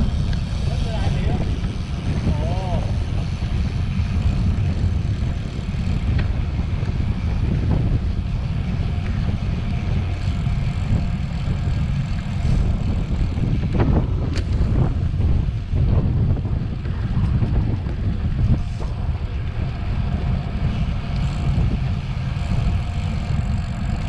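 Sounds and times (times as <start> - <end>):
tyre noise on road: 0.0 - 24.0
wind buffeting microphone: 0.0 - 24.0.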